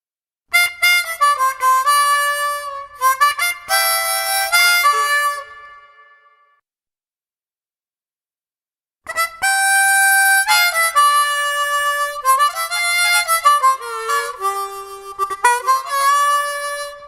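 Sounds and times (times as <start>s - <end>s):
harmonica playing notes and chords: 0.5s - 6.3s, 9.1s - 17.0s.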